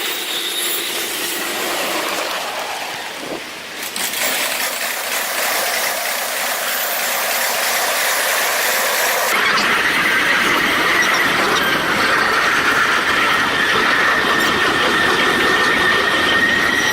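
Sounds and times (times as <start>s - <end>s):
high wheel squeal: 0.0s - 3.4s, 6.7s - 16.9s
train wheels rattling on rails: 0.0s - 16.9s.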